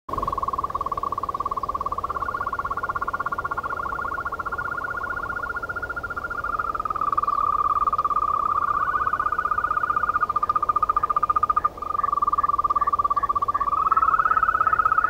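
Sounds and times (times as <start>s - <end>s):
toads trilling: 0.1s - 15.0s.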